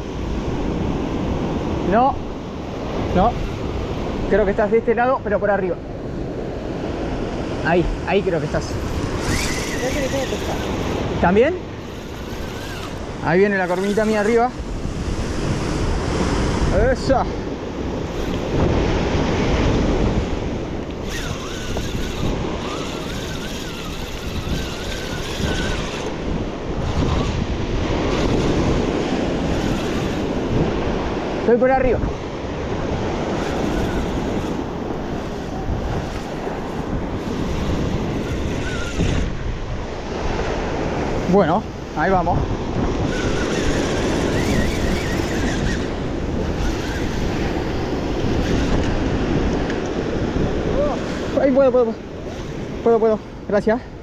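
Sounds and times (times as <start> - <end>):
sea surf washing: 0.0 - 54.0
wind buffeting microphone: 0.0 - 54.0.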